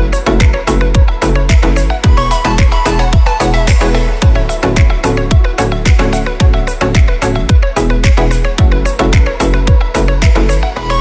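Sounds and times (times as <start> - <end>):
deep kick drum beat: 0.0 - 10.6.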